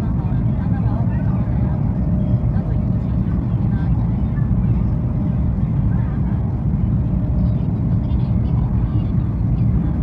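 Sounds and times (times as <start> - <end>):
train rumble inside carriage: 0.0 - 10.0.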